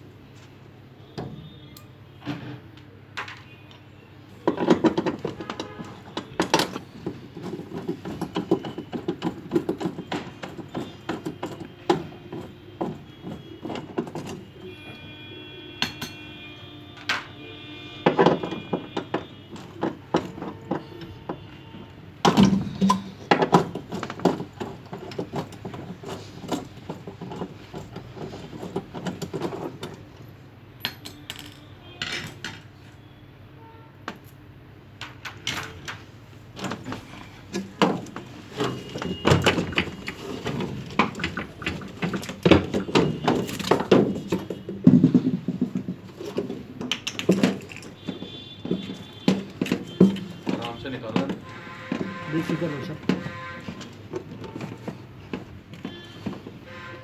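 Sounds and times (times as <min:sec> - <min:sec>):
tools and metal parts clinking: 0:03.2 - 0:33.0, 0:34.1 - 0:57.0.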